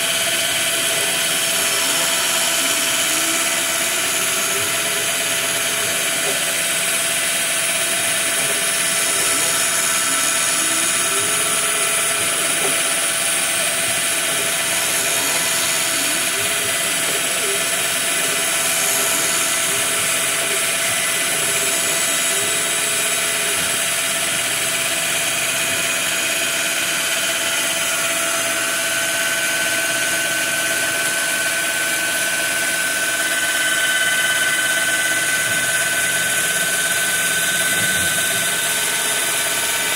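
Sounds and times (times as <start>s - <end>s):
end mill cutting wood: 0.0s - 39.9s
router spindle whining: 0.0s - 39.9s.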